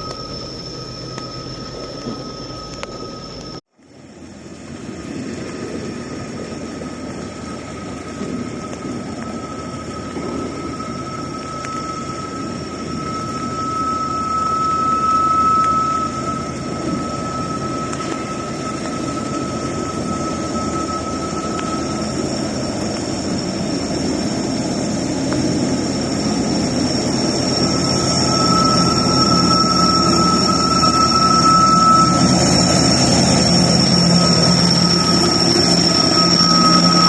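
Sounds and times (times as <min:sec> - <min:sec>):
freight train wheels squealing: 0:00.0 - 0:03.6, 0:07.4 - 0:37.0.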